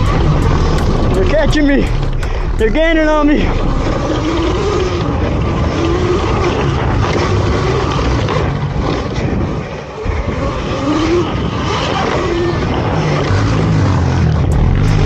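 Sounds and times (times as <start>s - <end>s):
motorcycle engines revving: 0.0s - 15.0s
wind rushing over microphone: 0.0s - 15.0s.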